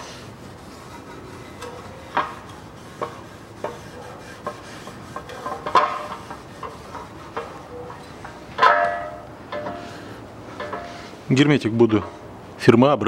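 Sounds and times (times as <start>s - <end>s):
rag rubbing: 0.0s - 12.3s.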